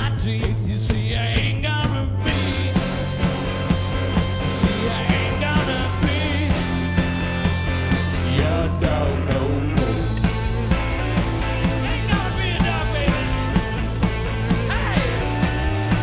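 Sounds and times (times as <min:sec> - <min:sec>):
blues-rock band playing live: 0:00.0 - 0:16.0
sung vocals: 0:00.0 - 0:16.0
electric guitar long held notes: 0:02.2 - 0:16.0.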